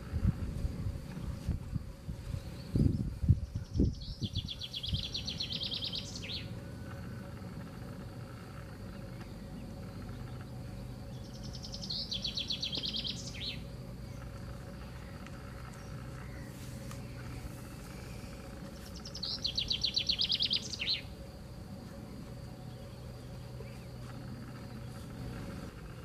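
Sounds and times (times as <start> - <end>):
steady low rumble: 0.0 - 26.0
songbird trilling: 2.5 - 21.2, 22.6 - 26.0.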